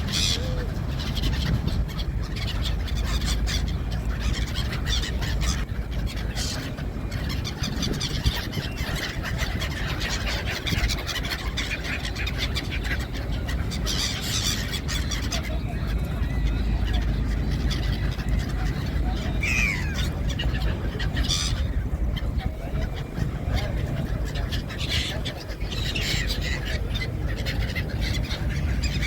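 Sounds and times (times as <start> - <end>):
gulls calling: 0.0 - 29.0
steady low rumble: 0.0 - 29.0.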